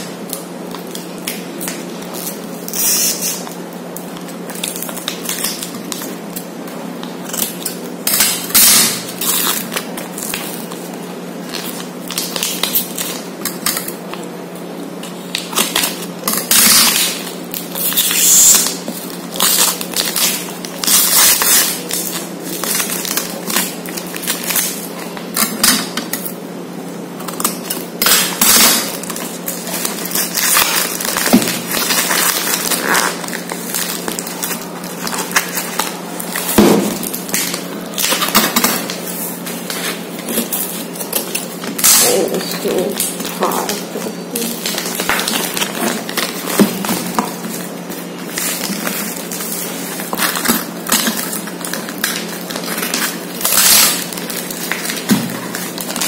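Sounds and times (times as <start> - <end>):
plastic wrapping rustling: 0.0 - 56.0
scissors cutting plastic: 0.3 - 14.2, 15.0 - 26.4, 27.2 - 56.0
tape and cardboard tearing: 0.9 - 3.6, 7.2 - 10.8, 15.3 - 26.3, 27.2 - 56.0.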